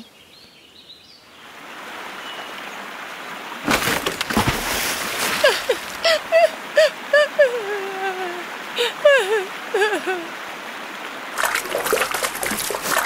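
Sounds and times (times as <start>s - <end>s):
rushing water-like noise: 1.4s - 13.0s.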